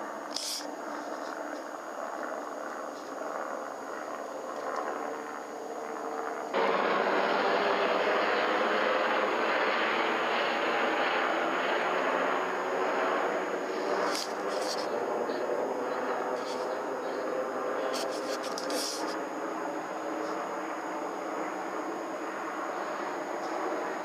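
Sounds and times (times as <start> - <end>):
helicopter in flight: 0.0 - 24.0.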